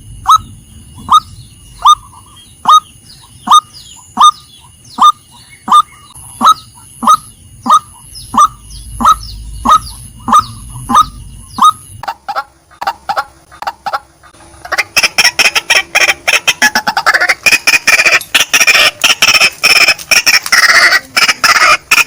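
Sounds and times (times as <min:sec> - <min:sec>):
waterhen calling: 0:00.0 - 0:22.0.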